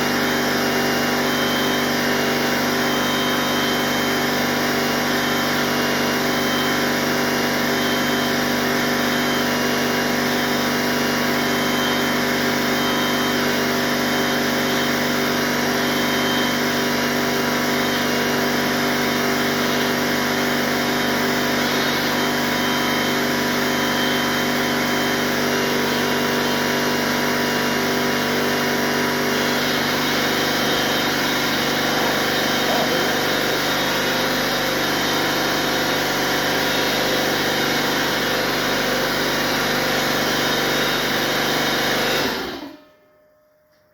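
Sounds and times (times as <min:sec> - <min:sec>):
machine humming and whining: 0:00.0 - 0:43.0.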